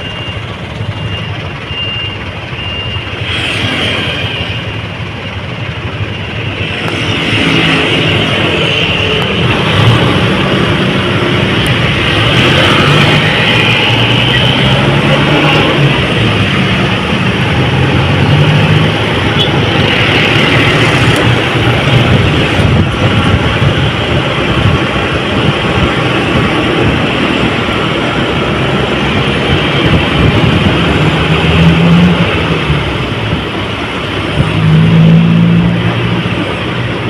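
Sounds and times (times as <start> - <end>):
road and traffic noise: 0.0 - 37.0
truck engine running: 0.0 - 37.0.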